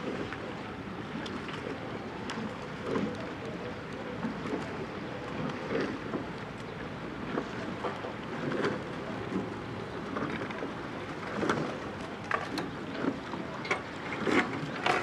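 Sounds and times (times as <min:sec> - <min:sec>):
oars splashing in water: 0:00.0 - 0:15.0.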